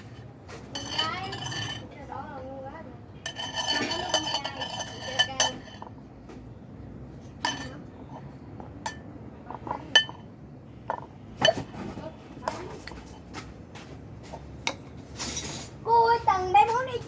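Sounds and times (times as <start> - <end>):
utensils clinking against a bowl: 0.0 - 2.4, 3.2 - 6.1, 7.2 - 15.8.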